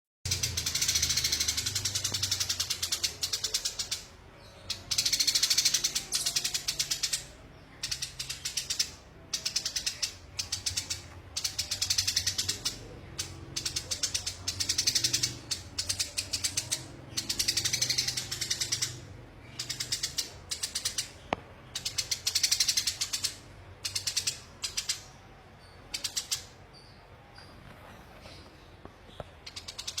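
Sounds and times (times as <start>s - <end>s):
sparrow chattering: 0.3s - 26.9s, 29.3s - 30.0s.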